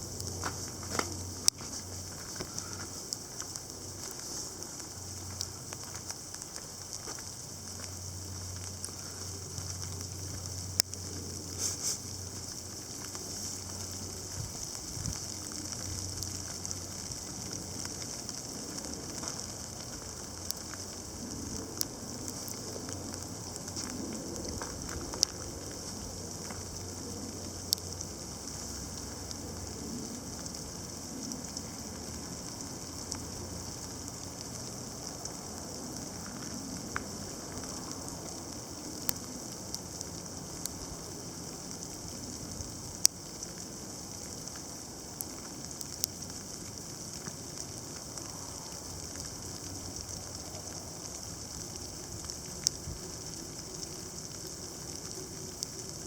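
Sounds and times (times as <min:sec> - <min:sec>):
ice pellets ticking: 0:00.0 - 0:56.0
sleet and snow hiss: 0:00.0 - 0:56.0.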